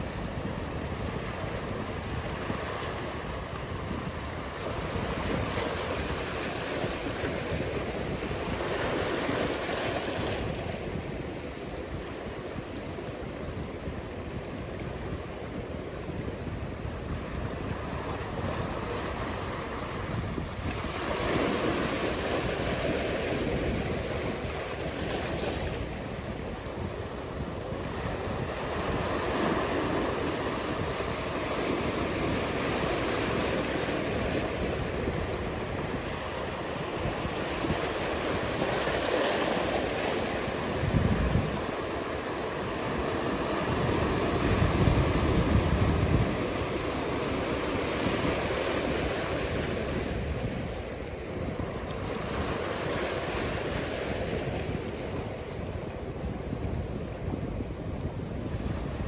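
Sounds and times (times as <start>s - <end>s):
waves breaking: 0.0s - 59.0s
wind buffeting microphone: 0.0s - 59.0s.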